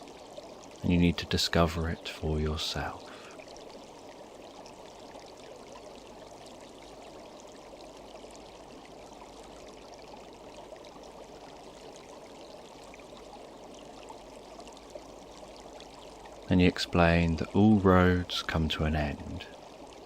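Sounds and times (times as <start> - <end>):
stream water flowing: 0.0 - 20.0.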